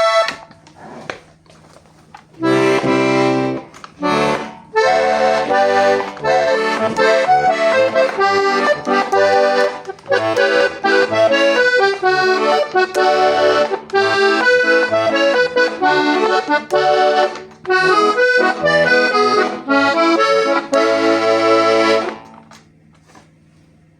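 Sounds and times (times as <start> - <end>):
accordion playing a lively tune: 0.0 - 0.5, 2.4 - 22.4.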